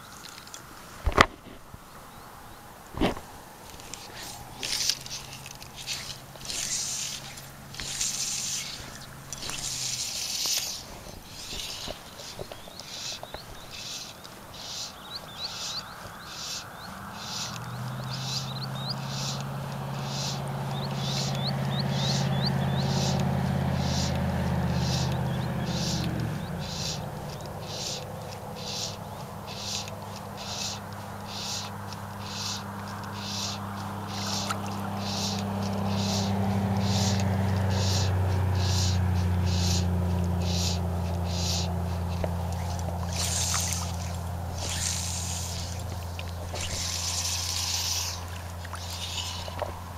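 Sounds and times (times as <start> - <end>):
low engine drone: 0.0 - 49.9
insects pulsing chorus: 1.9 - 49.9
short rising bird chirps: 4.0 - 49.9.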